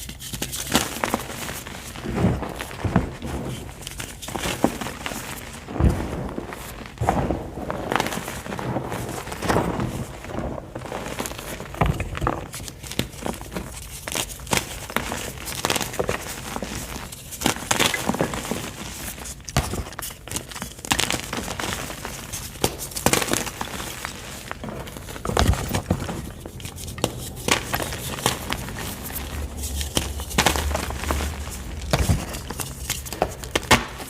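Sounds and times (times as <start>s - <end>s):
chalk crumbling and crunching: 0.0s - 34.0s.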